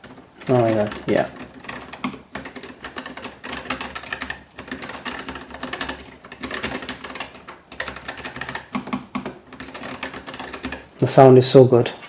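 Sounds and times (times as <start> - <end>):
fast typing on mechanical keyboard: 0.0 - 11.0.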